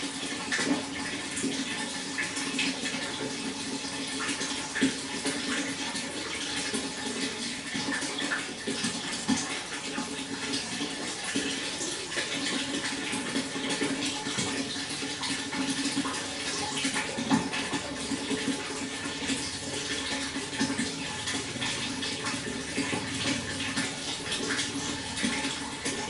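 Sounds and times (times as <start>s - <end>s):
water flowing and splashing: 0.0s - 26.0s.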